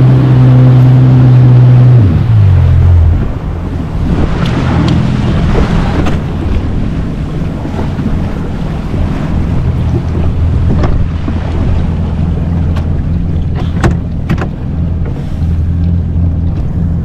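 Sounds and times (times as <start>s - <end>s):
jet ski engine running: 0.0s - 17.0s
water rushing past hull: 0.0s - 17.0s
wind buffeting microphone: 2.0s - 17.0s.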